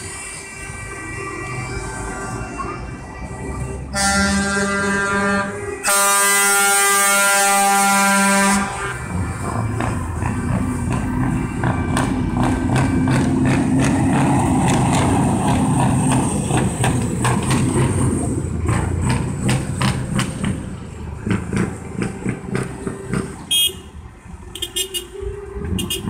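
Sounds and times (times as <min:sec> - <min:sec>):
trucks driving past: 0:00.0 - 0:26.0.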